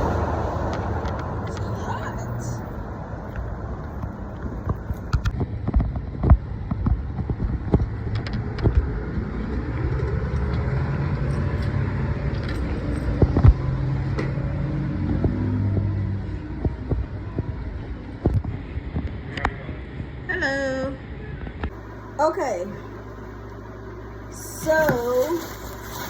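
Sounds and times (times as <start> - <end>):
car engine humming: 0.0 - 20.6, 21.6 - 26.0.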